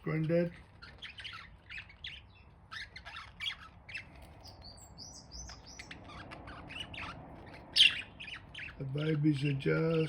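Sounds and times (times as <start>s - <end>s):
budgerigars chattering: 0.1s - 10.0s.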